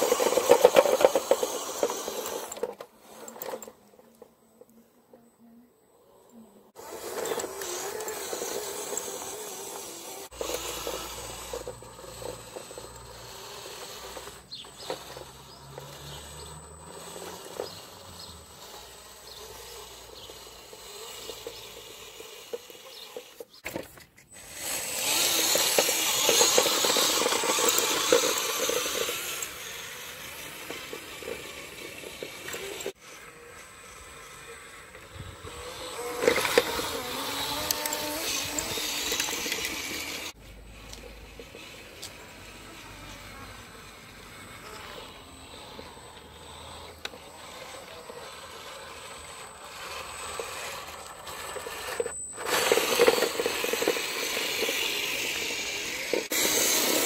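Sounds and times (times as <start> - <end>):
toy truck electric motor: 0.0 - 5.2, 5.9 - 57.0.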